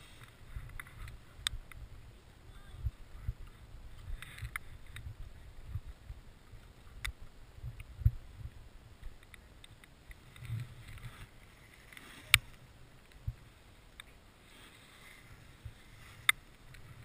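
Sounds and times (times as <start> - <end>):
wind rumble on microphone: 0.0 - 13.6.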